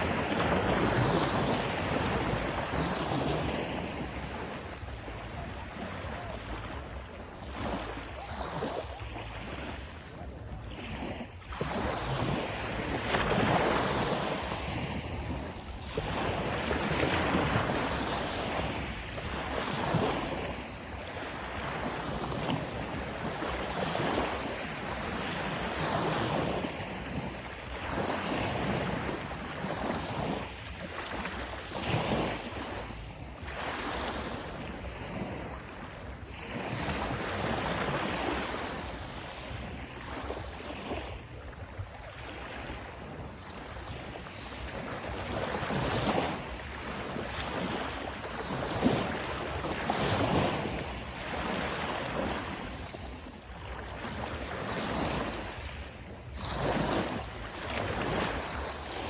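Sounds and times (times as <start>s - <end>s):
sea waves washing in: 0.0s - 59.0s
wind buffeting microphone: 0.0s - 59.0s.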